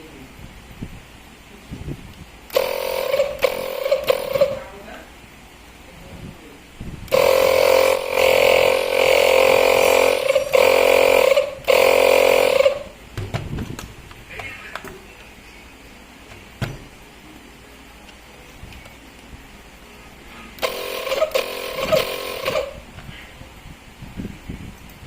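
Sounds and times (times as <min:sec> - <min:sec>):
inflator compressor running: 0:01.8 - 0:05.8, 0:06.8 - 0:17.2, 0:17.8 - 0:24.8.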